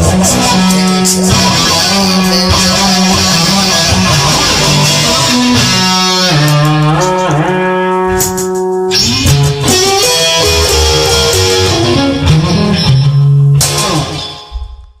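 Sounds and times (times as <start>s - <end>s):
instrumental guitar music: 0.0s - 15.0s.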